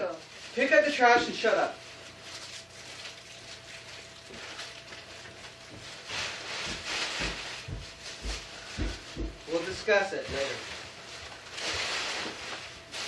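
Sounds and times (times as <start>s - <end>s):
plastic bag and paper rustling: 0.0s - 13.0s.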